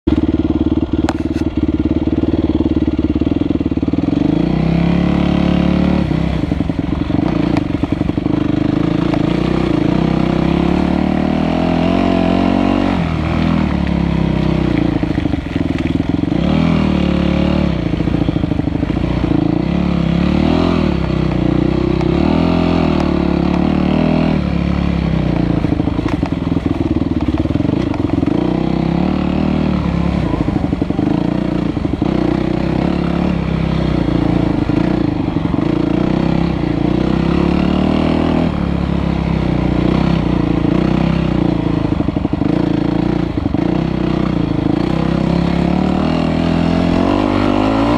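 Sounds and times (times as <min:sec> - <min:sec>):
dirt bike engine revving: 0:00.1 - 0:47.9.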